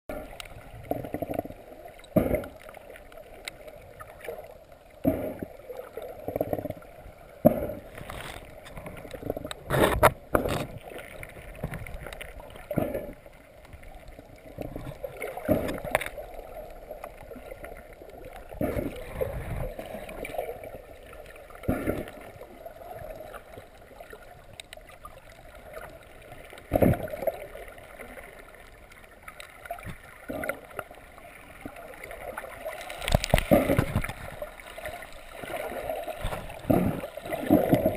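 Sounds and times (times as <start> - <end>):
underwater surf movement: 0.1 - 37.9.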